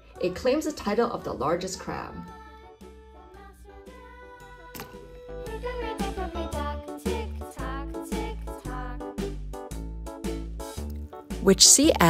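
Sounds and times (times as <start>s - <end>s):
children's music with beat: 0.0s - 12.0s.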